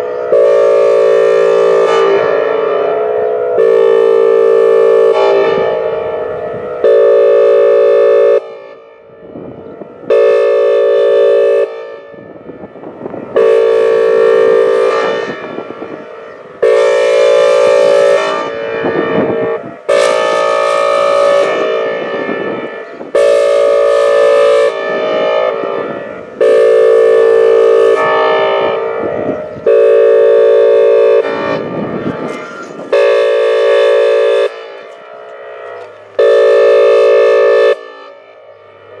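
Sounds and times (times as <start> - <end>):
warning siren horn blasts: 0.0 - 39.0.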